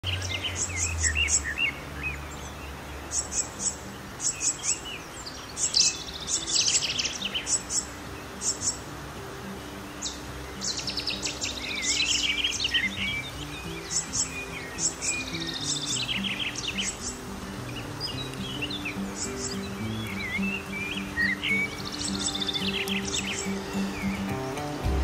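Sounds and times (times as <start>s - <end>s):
blackbird singing: 0.0s - 25.0s.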